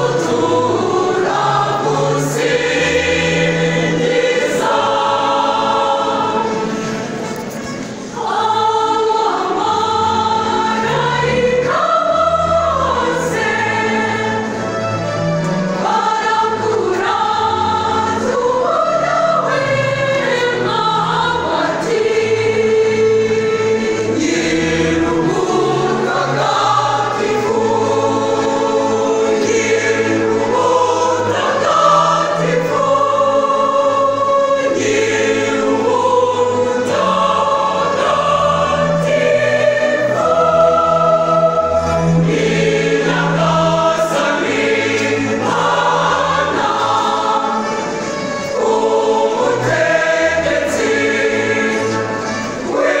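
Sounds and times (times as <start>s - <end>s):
mixed choir singing: 0.0s - 53.0s.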